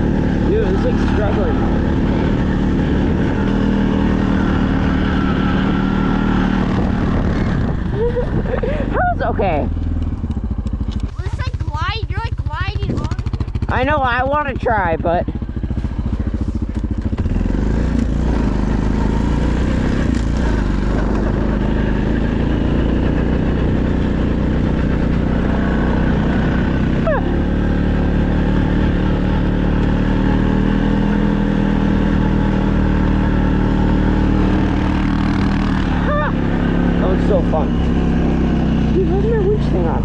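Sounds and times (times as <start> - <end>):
off-road vehicle engine running: 0.0 - 40.0.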